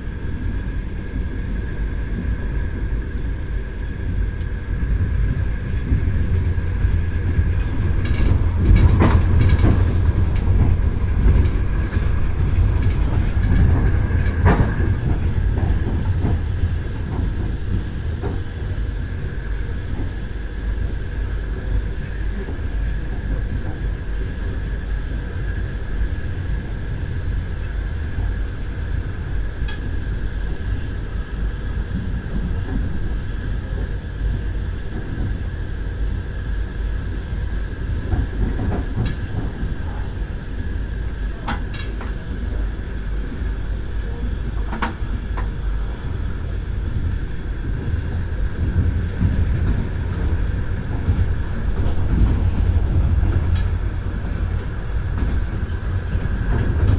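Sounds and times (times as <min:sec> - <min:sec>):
train low rumble: 0:00.0 - 0:56.9
train wheels clacking on rails: 0:00.0 - 0:56.9.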